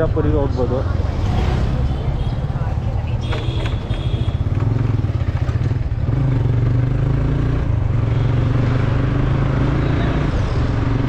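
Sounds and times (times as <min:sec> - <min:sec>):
motorcycle engine drone: 0:00.0 - 0:11.0
road noise: 0:00.0 - 0:11.0.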